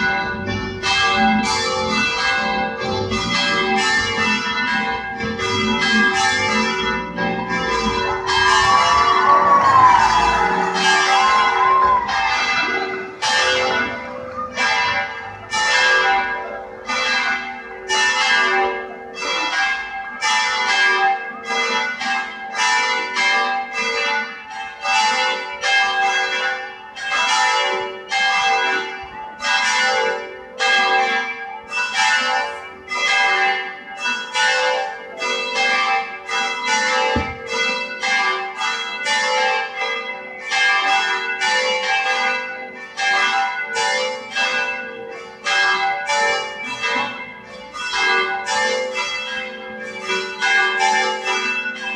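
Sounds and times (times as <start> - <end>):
church bells pealing: 0.0 - 51.9.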